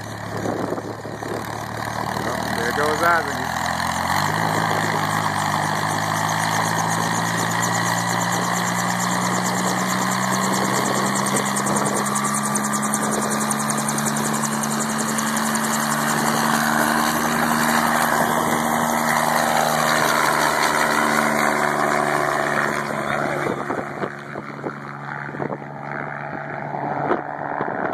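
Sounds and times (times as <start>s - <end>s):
helicopter engine and rotor running: 0.0s - 27.9s.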